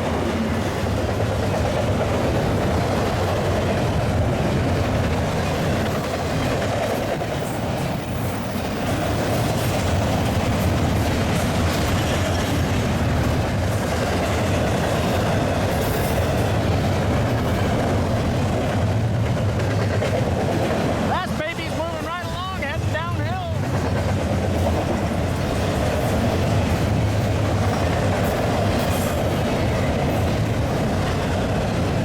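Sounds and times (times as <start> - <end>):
freight cars rumbling: 0.0 - 32.0
wheels clacking over rail joints: 0.0 - 32.0.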